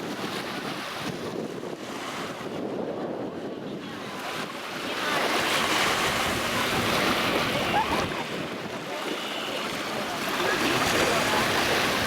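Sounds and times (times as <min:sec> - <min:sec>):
sea surf washing onto beach: 0:00.0 - 0:12.0
wind on microphone: 0:00.0 - 0:12.0.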